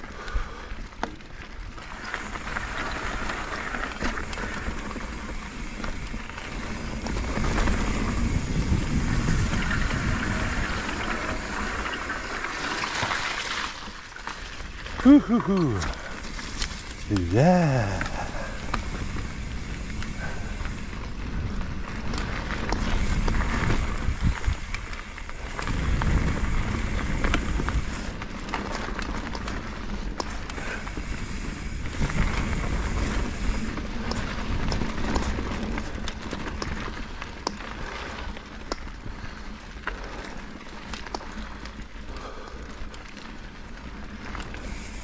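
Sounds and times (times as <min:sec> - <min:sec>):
bike clicks and rattles: 0:00.0 - 0:17.2, 0:17.9 - 0:45.0
bike tyres rolling over dirt: 0:00.0 - 0:45.0.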